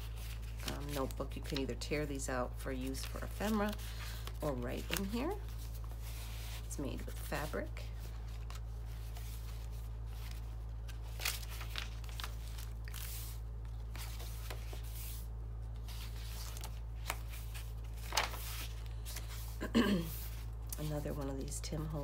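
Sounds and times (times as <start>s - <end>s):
paper pages rustling: 0.0s - 2.2s, 2.8s - 21.6s
steady low hum: 0.0s - 22.0s
paper crinkles: 2.9s - 20.5s.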